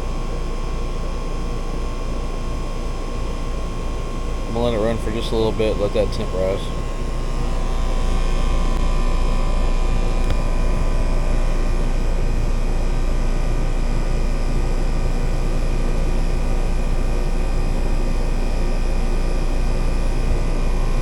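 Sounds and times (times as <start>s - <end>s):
heat pump low hum: 0.0s - 21.0s
heat pump rushing noise: 0.0s - 21.0s.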